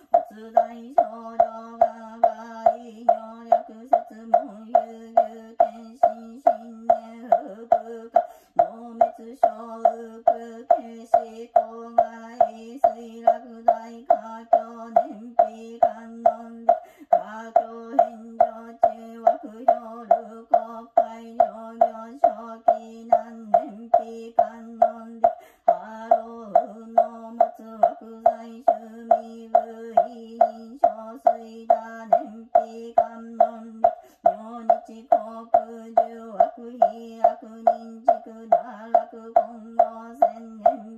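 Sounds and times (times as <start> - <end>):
monotone chanting: 0.0 - 40.9
wooden block knocking: 0.0 - 40.9.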